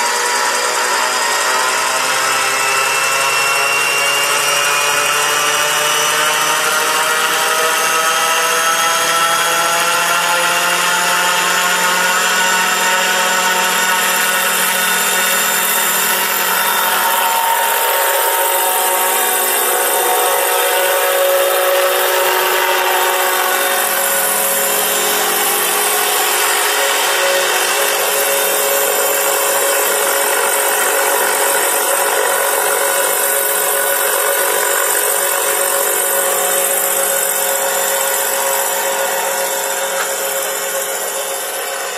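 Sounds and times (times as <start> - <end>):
model helicopter whine: 0.0 - 41.9.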